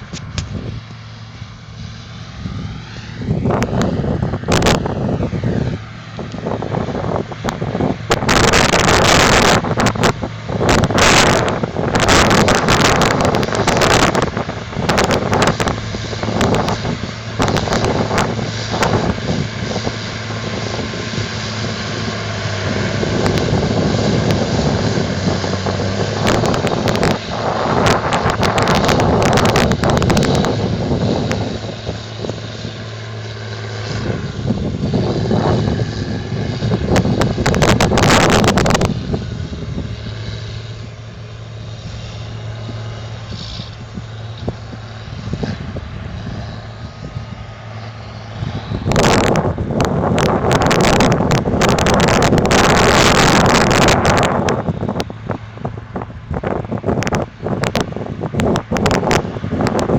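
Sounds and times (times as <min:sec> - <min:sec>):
tractor diesel engine running: 0:00.0 - 0:59.9
wind buffeting microphone: 0:00.0 - 0:59.9.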